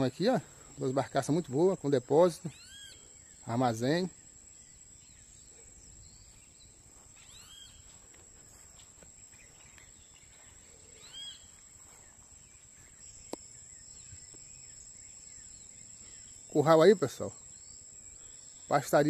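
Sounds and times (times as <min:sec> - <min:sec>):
bird calls: 0:00.0 - 0:19.0
high-pitched insect drone: 0:00.0 - 0:19.0.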